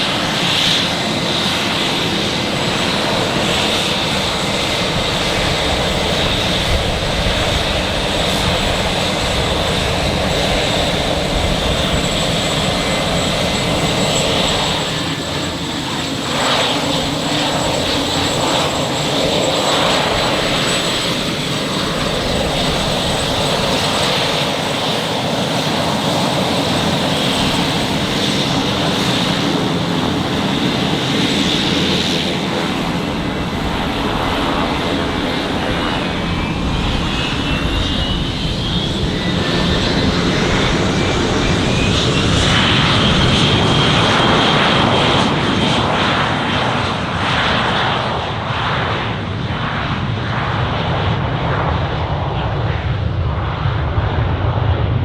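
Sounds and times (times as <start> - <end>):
turboprop engine running: 0.0 - 49.9
jet engines roaring: 0.0 - 55.0.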